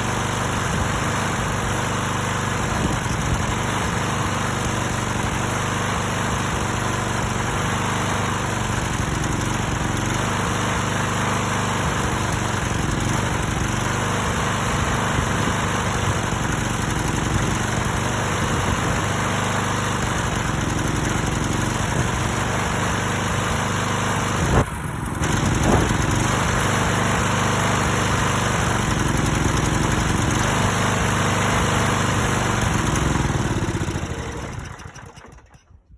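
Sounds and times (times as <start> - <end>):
lawn mower engine misfiring: 0.0 - 35.9.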